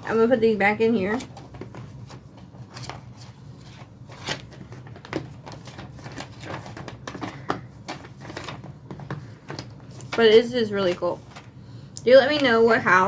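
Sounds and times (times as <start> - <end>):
packaging rustling: 1.2 - 11.6.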